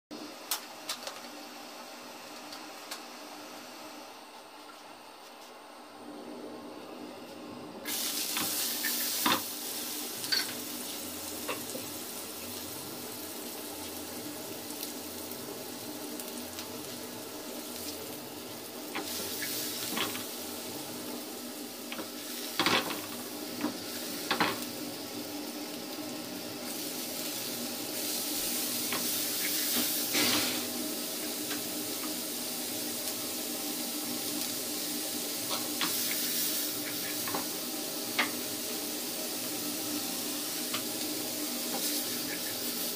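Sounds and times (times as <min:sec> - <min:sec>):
vegetables sizzling in a frying pan: 0:07.8 - 0:42.9.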